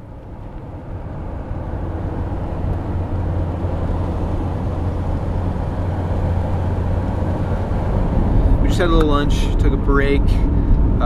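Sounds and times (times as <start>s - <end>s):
van road and engine drone: 0.0s - 11.0s.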